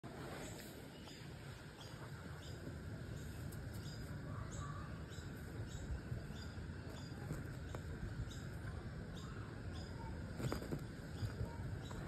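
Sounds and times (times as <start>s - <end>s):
low steady rumble: 0.1s - 12.0s
birds chirping: 0.3s - 12.0s.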